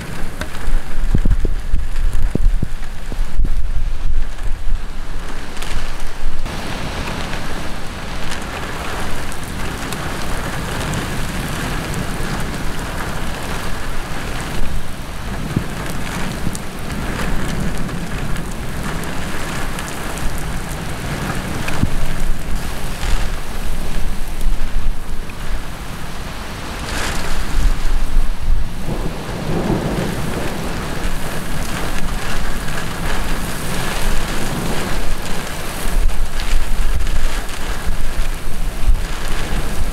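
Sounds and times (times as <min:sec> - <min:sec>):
heavy rain pouring: 0:00.0 - 0:39.9
thunder rumbling: 0:00.0 - 0:39.9.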